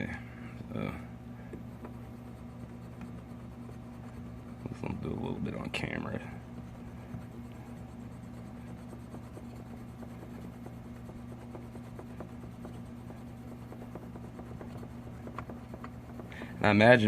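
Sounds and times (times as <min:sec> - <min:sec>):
steady low hum: 0:00.0 - 0:17.0
eraser scrubbing plastic: 0:01.6 - 0:17.0.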